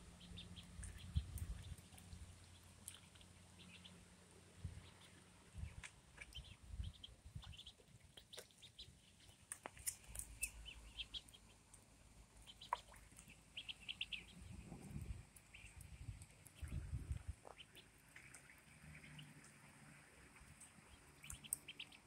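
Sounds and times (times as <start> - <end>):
ducklings peeping: 0.0 - 4.0, 4.7 - 11.7, 12.3 - 19.5, 20.4 - 22.0.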